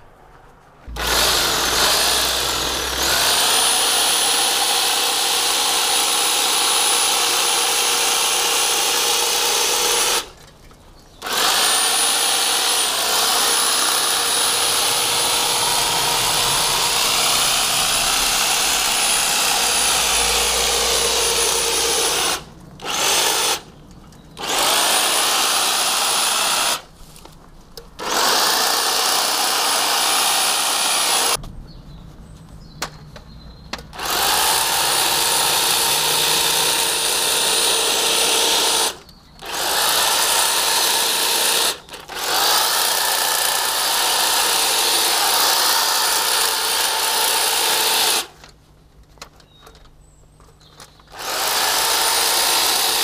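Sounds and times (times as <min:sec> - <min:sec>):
electric hedge trimmer whining: 0:00.9 - 0:10.4, 0:11.2 - 0:23.7, 0:24.4 - 0:26.9, 0:28.0 - 0:31.4, 0:34.0 - 0:48.4, 0:51.1 - 0:53.0.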